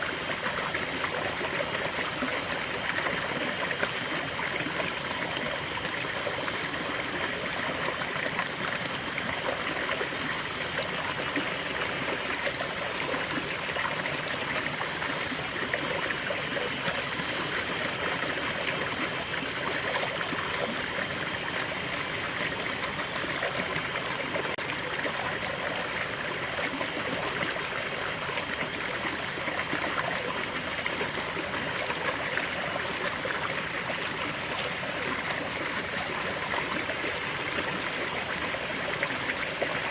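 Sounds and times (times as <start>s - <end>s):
waterfall and stream over rocks: 0.0s - 39.9s.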